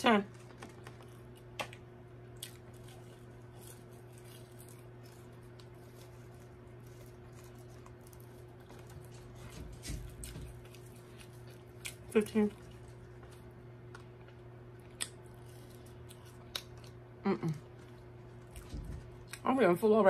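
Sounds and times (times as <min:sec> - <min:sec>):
fingers picking through fries: 0:00.0 - 0:20.0
chewing french fries: 0:00.3 - 0:19.5.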